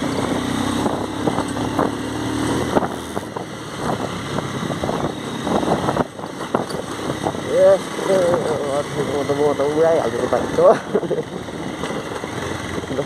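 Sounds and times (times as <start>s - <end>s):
motorcycle engine running: 0.0s - 13.0s
motorcycle knocking and rattling: 0.0s - 13.0s.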